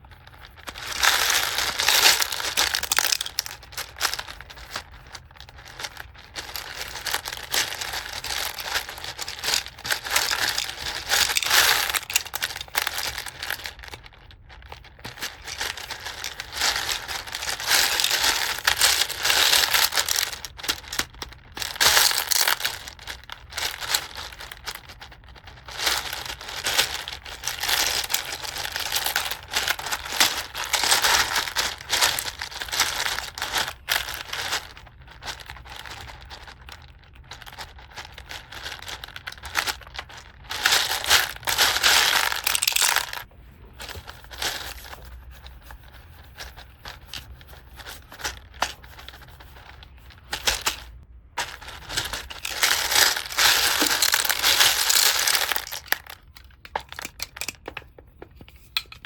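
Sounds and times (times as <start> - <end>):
plastic packaging crinkling: 0.0 - 57.9.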